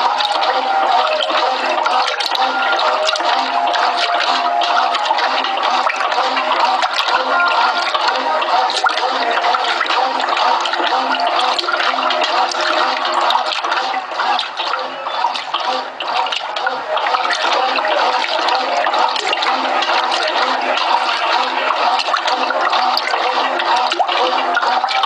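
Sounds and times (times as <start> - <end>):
washing machine churning and sloshing: 0.0 - 25.0
washing machine motor hum: 0.0 - 25.0.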